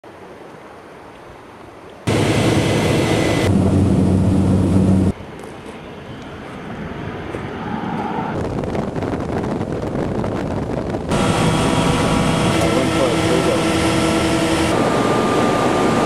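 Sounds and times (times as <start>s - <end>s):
rush of wind and water: 0.0s - 16.0s
floatplane engine droning: 2.0s - 16.0s.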